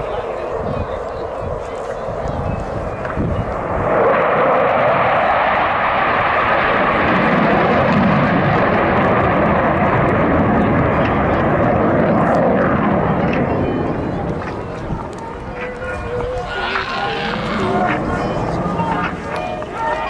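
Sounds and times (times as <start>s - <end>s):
fighter jets flying past: 0.0s - 20.0s.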